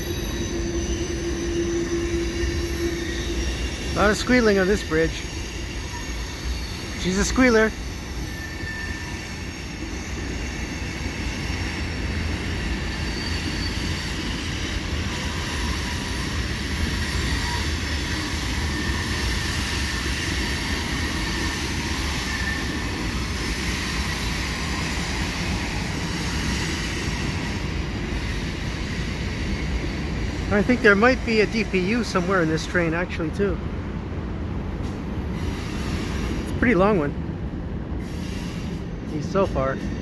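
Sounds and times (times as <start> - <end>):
train wheels squealing: 0.0 - 33.6, 34.8 - 37.1, 37.9 - 40.0
freight train rumbling: 0.0 - 40.0.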